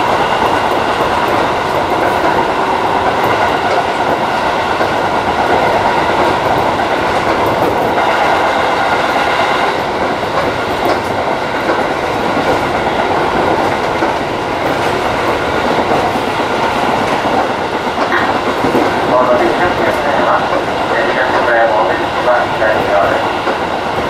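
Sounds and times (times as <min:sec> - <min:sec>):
rail joint clicks: 0:00.0 - 0:24.0
train wheels rumbling on rail: 0:00.0 - 0:24.0.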